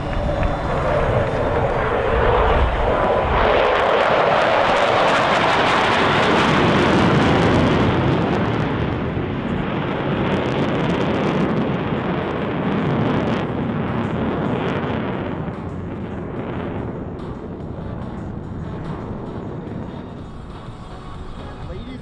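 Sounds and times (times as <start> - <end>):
jet flying past: 0.0 - 22.0.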